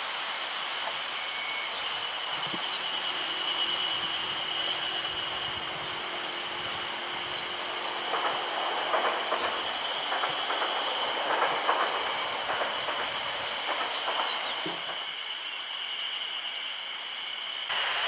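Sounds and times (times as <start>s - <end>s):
train wheels clattering over rails: 0.7s - 15.2s.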